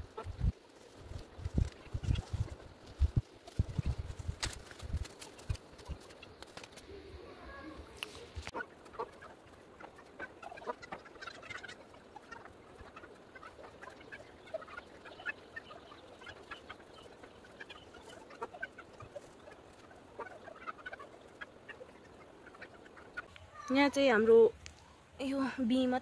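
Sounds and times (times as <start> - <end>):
chickens clucking: 0.0 - 24.5.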